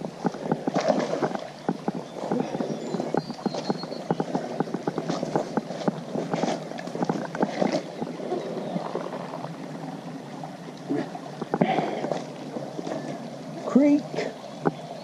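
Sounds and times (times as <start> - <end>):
creek water splashing: 0.0 - 15.0.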